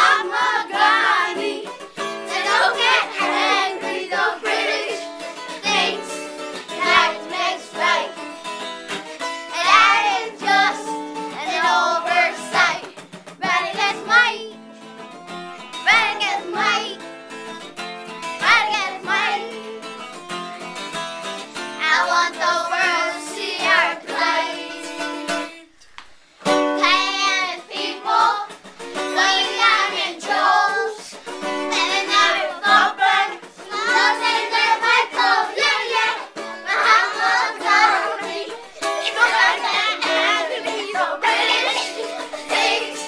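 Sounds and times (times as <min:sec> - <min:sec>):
children singing: 0:00.0 - 0:08.3, 0:09.4 - 0:14.6, 0:15.8 - 0:17.0, 0:18.4 - 0:19.8, 0:21.8 - 0:25.0, 0:26.8 - 0:43.0
acoustic guitar: 0:00.0 - 0:43.0.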